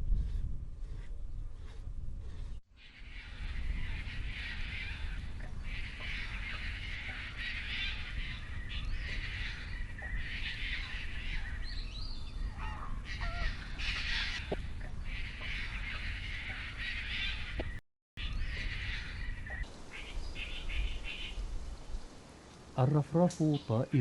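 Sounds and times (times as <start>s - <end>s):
birds chattering: 2.8s - 21.4s, 22.8s - 24.0s.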